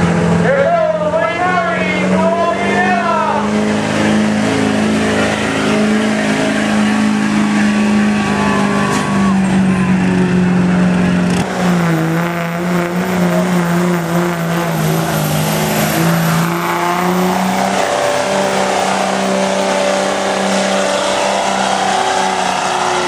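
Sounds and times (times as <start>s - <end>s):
diesel truck engine running hard: 0.0s - 23.0s.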